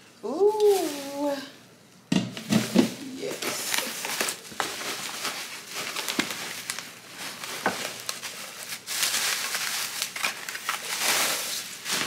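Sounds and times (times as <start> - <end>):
bubble wrap crinkling: 0.0 - 1.6, 2.3 - 12.0.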